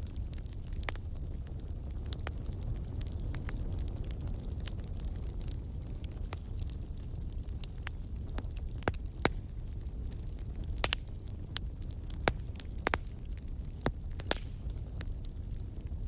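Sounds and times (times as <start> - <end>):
fire crackles and pops: 0.0 - 16.0
low rumble of fire flames: 0.0 - 16.0.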